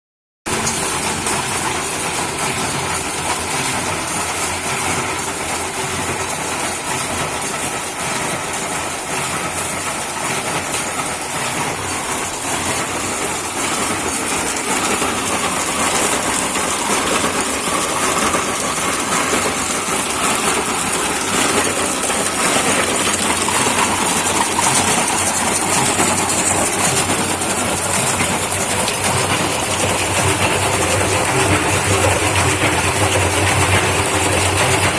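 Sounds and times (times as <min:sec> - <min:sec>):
concrete mixer running: 0:00.5 - 0:34.9.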